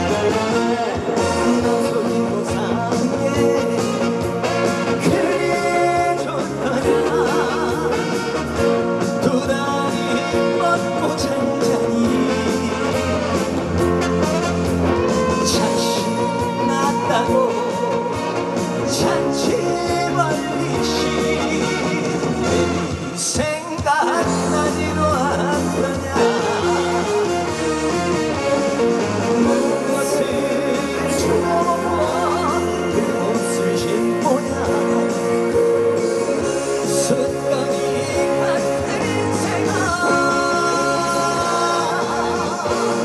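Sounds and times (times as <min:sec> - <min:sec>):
full band playing: 0:00.0 - 0:43.0
person singing: 0:00.0 - 0:43.0.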